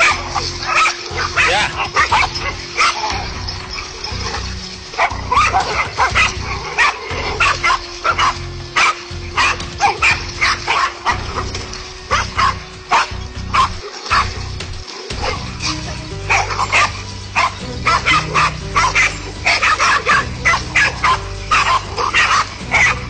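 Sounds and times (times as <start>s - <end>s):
dogs barking and yelping: 0.0s - 23.0s.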